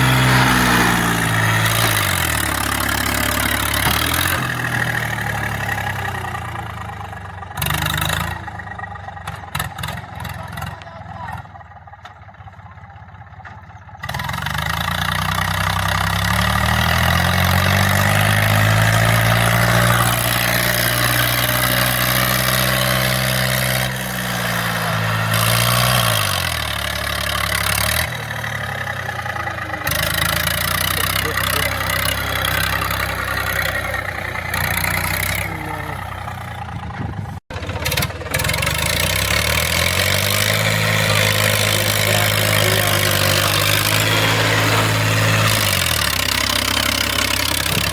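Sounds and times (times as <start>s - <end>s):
tractor diesel engine revving: 0.0s - 47.9s.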